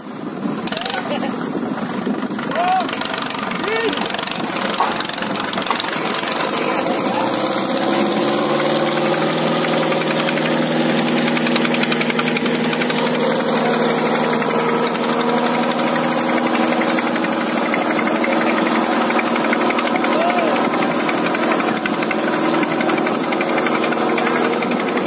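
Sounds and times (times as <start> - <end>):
tractor diesel engines droning: 0.0 - 25.0.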